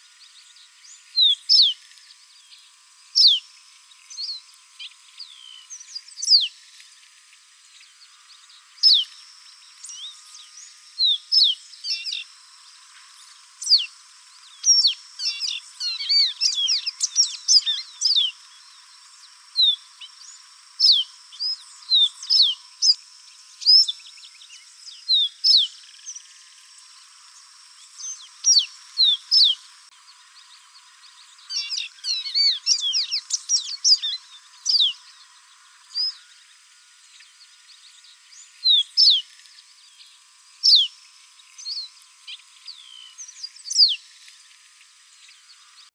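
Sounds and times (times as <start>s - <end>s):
bird singing whistled notes: 0.2s - 1.8s, 2.4s - 3.5s, 4.1s - 6.6s, 7.7s - 12.3s, 13.6s - 26.5s, 27.4s - 41.0s, 41.6s - 44.1s.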